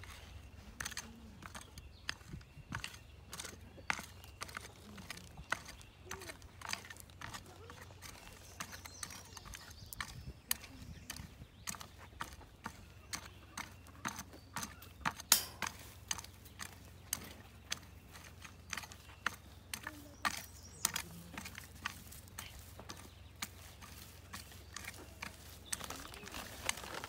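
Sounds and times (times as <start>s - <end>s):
hoe chopping dry soil: 0.0s - 27.0s.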